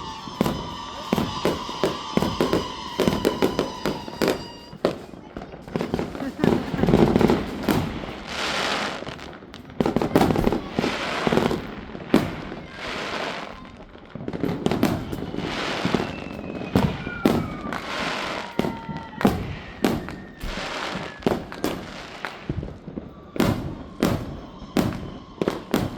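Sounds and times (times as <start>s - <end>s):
fireworks bangs: 0.0s - 25.9s
fireworks crackling: 0.0s - 25.9s
fireworks falling whistles: 0.0s - 25.9s.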